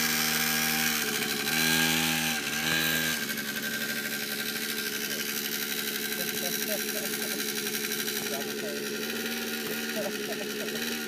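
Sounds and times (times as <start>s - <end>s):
mini dirt bike engine revving: 0.0s - 11.0s.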